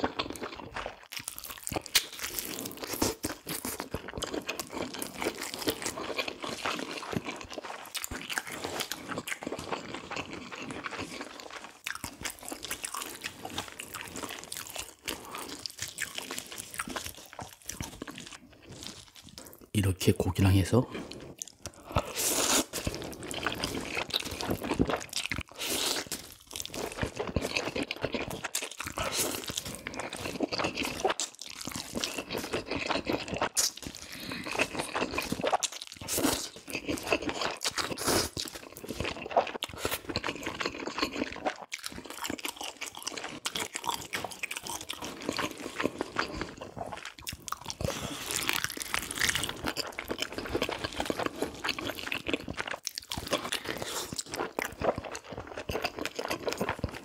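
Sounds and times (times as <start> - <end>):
person crunching and chewing: 0.0 - 57.0.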